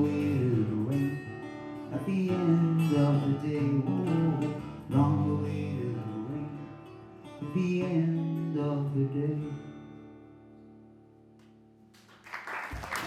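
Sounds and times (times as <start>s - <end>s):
acoustic guitar chords: 0.0s - 11.9s.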